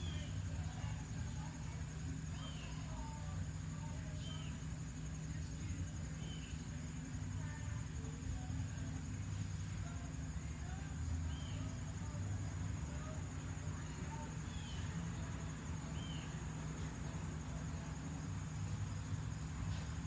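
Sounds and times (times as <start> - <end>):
distant voices: 0.0 - 20.0
faint chirps: 0.0 - 20.0
steady low hum: 0.0 - 20.0.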